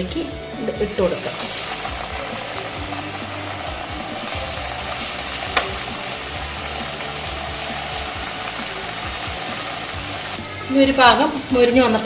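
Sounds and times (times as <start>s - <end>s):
dough sizzling in hot oil: 0.6s - 12.0s.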